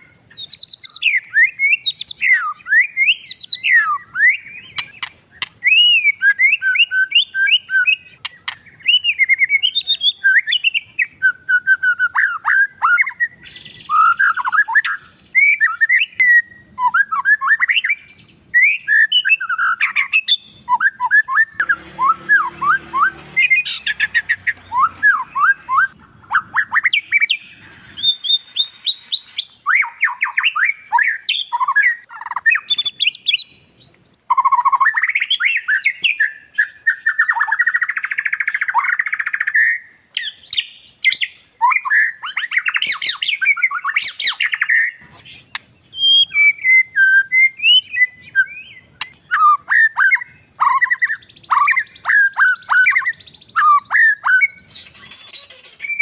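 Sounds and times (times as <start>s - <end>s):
bird singing whistled notes: 0.0s - 56.0s
harsh buzzy rasping bird calls: 0.0s - 56.0s.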